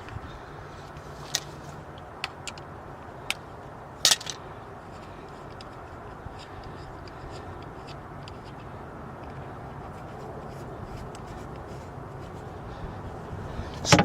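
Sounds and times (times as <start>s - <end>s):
steady low hum: 0.0s - 14.0s
small metal parts ticking and scraping: 1.2s - 12.5s.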